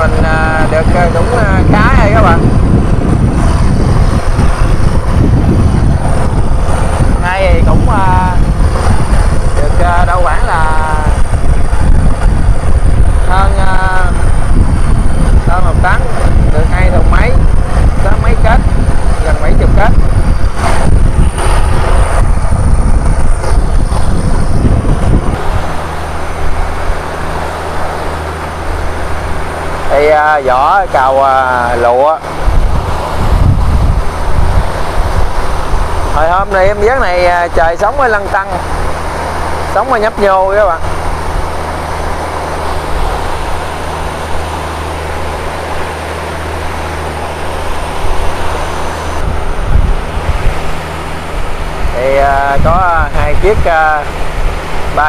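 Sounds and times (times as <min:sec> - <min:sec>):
boat engine running: 0:00.0 - 0:55.0
rushing water: 0:00.0 - 0:55.0
wind buffeting microphone: 0:00.0 - 0:55.0.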